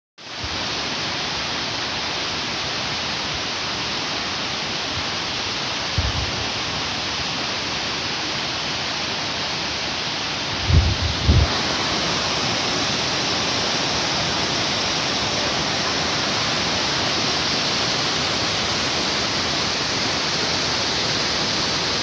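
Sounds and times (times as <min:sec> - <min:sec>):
waterfall rushing: 0:00.2 - 0:22.0.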